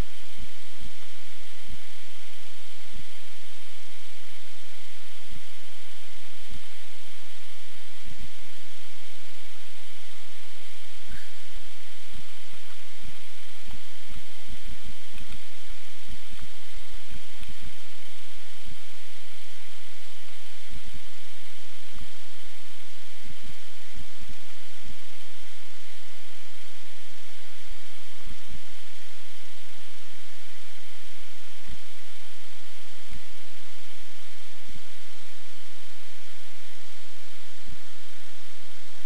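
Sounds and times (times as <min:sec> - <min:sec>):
microphone hiss: 0:00.0 - 0:39.0.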